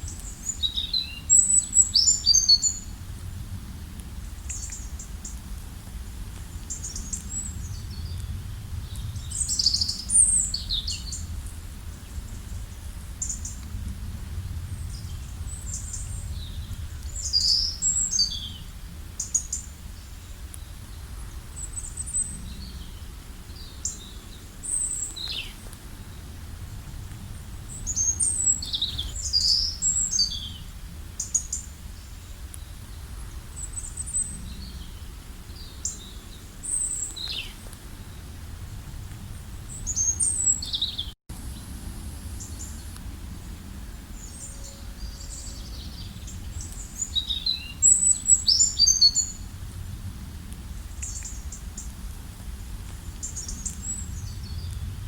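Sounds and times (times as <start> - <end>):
low background rumble: 0.0 - 48.4
songbirds chirping: 0.0 - 55.0.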